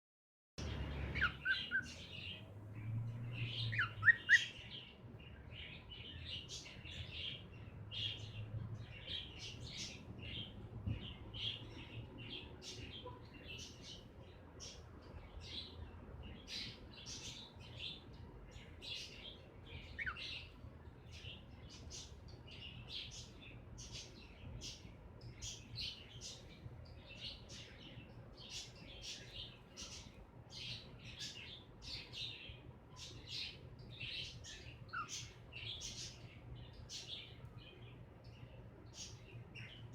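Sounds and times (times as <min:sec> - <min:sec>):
faint steady hum: 0:00.6 - 0:39.9.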